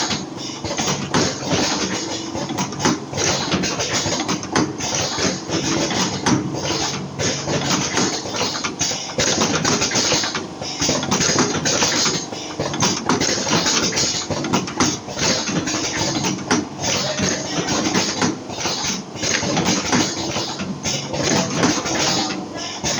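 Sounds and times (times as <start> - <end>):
machine clatter and hum: 0.0 - 22.9.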